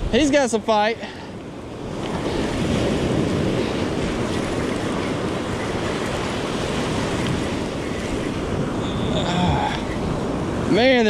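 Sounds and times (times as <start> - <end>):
surf washing: 0.0 - 11.0.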